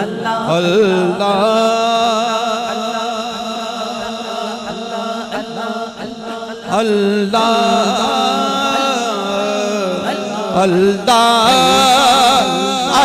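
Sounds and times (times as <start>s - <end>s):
devotional chanting: 0.0s - 13.0s
louder chanting voice: 0.0s - 13.0s.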